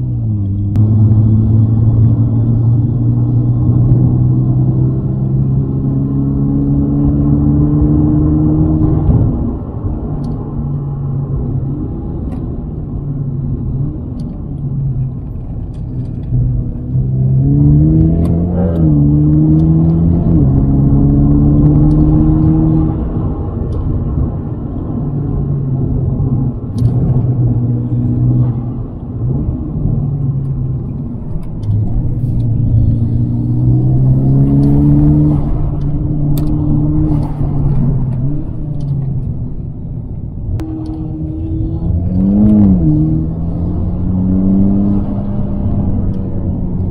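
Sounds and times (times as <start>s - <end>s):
car engine accelerating: 0.0s - 46.9s
road rumble inside car: 0.0s - 46.9s.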